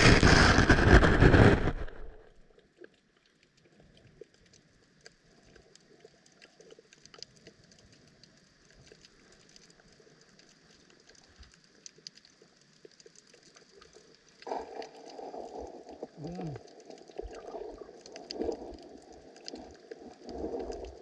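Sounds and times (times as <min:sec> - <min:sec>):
small underwater clicks and crackles: 0:00.0 - 0:21.0
soft underwater hiss: 0:01.8 - 0:21.0.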